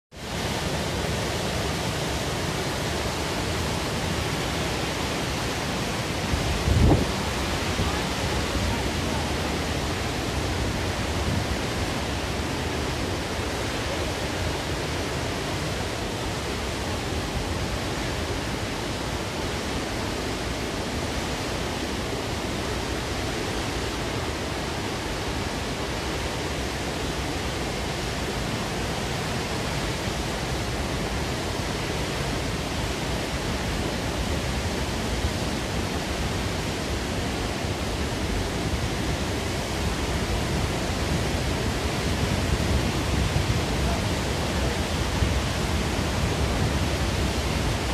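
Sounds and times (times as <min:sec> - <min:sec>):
waterfall rushing: 0:00.2 - 0:47.9.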